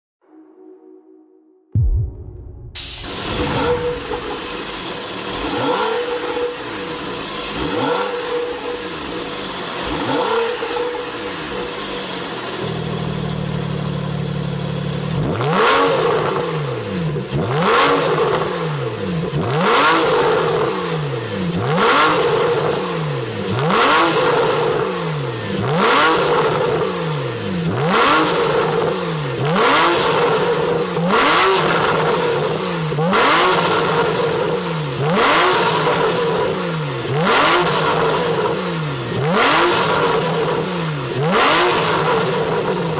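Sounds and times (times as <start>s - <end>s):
car engine revving: 2.8s - 42.9s.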